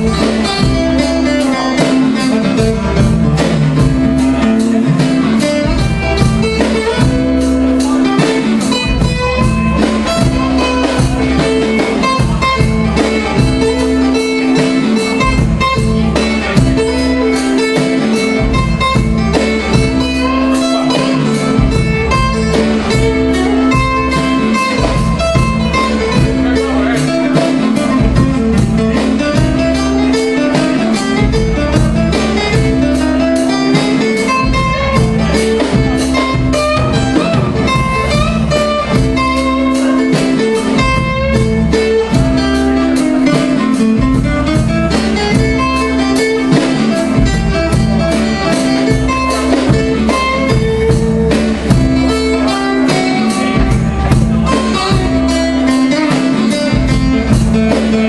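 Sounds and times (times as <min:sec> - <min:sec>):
acoustic guitar playing: 0:00.0 - 0:58.0
drum kit beat: 0:00.0 - 0:58.0.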